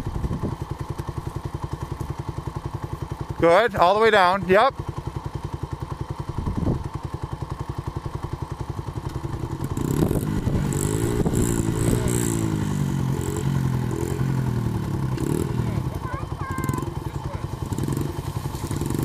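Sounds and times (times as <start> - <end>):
dirt bike engine idling and revving: 0.0 - 19.0.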